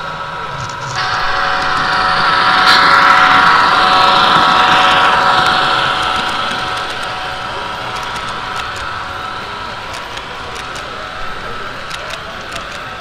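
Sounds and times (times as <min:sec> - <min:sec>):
model train running: 0:00.0 - 0:13.0.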